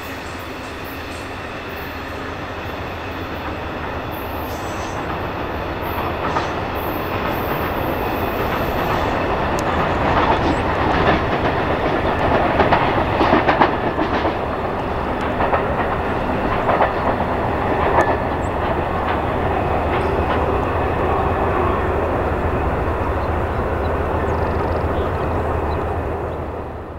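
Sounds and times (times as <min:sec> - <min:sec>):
train wheels clicking and clacking: 0:00.0 - 0:26.5
train wheels rumbling on rails: 0:00.0 - 0:26.9.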